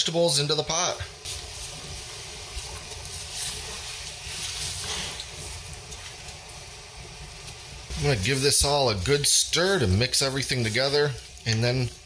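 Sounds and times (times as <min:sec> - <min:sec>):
bubbling liquid hissing: 0:00.6 - 0:12.0.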